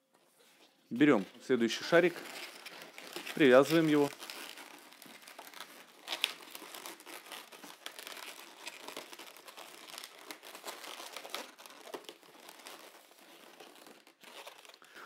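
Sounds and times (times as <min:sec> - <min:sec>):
balloons rubbing and crinkling: 0:00.1 - 0:15.0.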